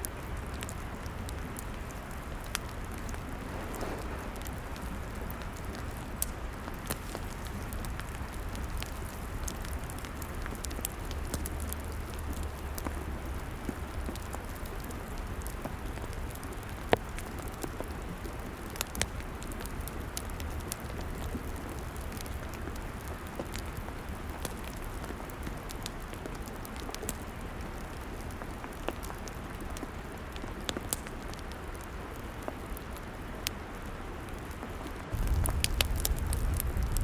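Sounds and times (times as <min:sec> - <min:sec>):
log fire crackling: 0:00.0 - 0:37.0.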